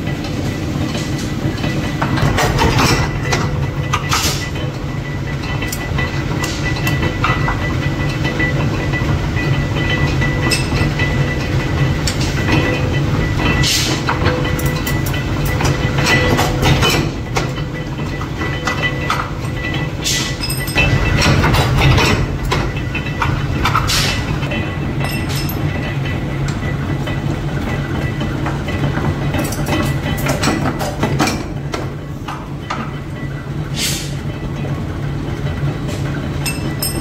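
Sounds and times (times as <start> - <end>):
forging press low rumble: 0.0 - 37.0
metallic clanks: 0.9 - 34.7, 35.9 - 37.0.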